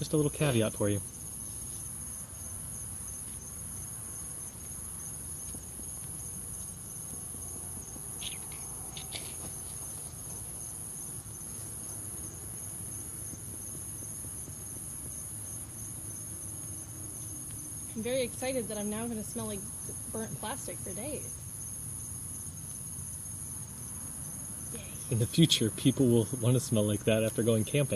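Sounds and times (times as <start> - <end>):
insects chirring: 0.0 - 27.9.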